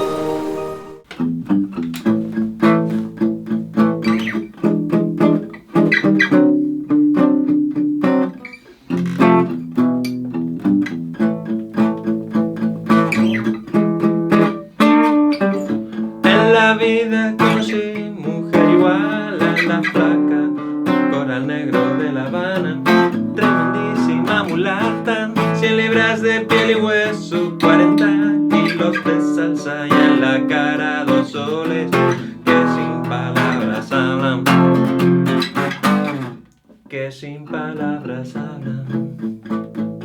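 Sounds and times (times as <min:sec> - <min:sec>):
acoustic guitar strumming: 0:00.0 - 0:36.5, 0:37.5 - 0:40.0.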